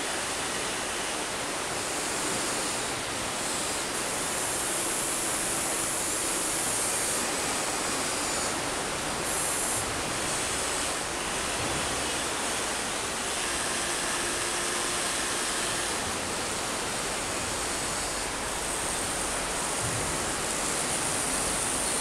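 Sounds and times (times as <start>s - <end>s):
faint motor whine: 0.0s - 22.0s
river rushing: 0.0s - 22.0s.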